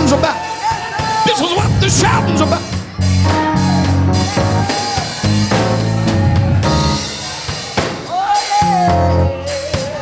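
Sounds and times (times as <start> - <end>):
keyboard bass-heavy chords: 0.0 - 8.0, 8.6 - 10.0
drum kit: 0.0 - 10.0.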